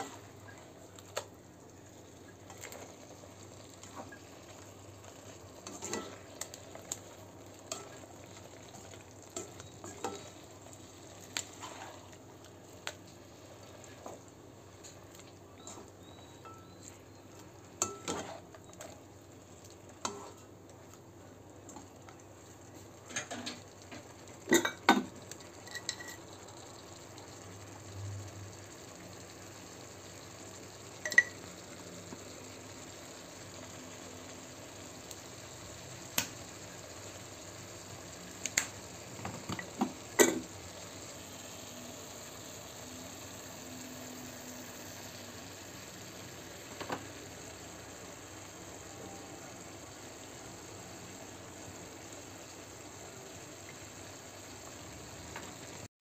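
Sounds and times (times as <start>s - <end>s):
food sizzling in a wok: 0.0s - 55.9s.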